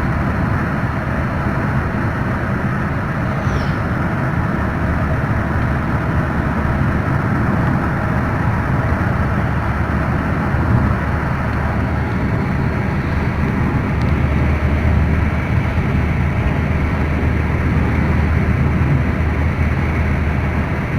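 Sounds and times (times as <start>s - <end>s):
car engine running: 0.0s - 20.9s
road noise: 0.0s - 20.9s.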